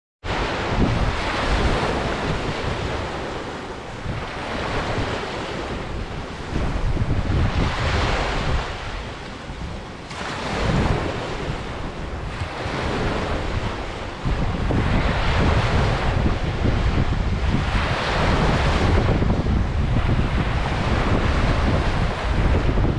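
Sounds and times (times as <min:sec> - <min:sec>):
wind gusting on microphone: 0:00.2 - 0:22.9
ocean surf breaking: 0:00.3 - 0:22.9.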